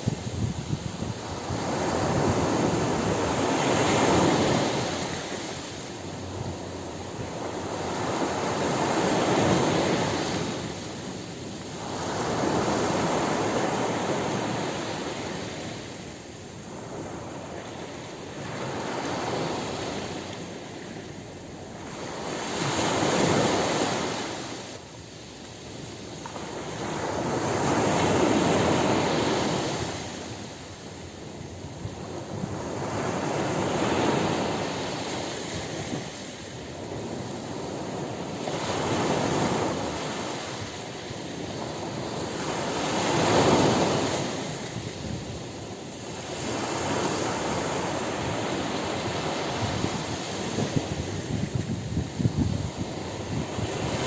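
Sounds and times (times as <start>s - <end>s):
ocean surf washing onto beach: 0.0s - 54.0s.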